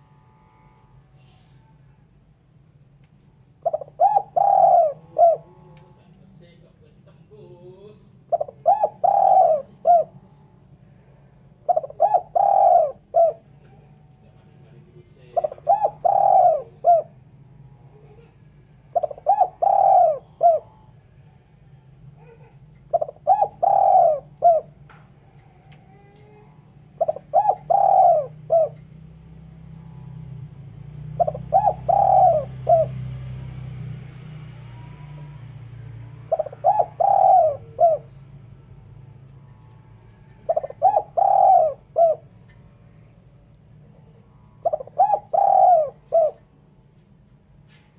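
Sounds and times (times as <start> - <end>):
faint low hum: 0.0 - 47.9
dove cooing: 3.6 - 6.2, 8.1 - 14.2, 14.9 - 47.1.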